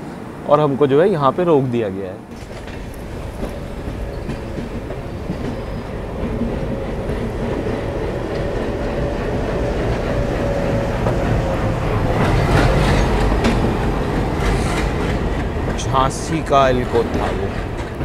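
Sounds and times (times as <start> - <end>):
diesel train rumbling past: 0.0 - 18.0
wheel clacks over rail joints: 2.3 - 18.0.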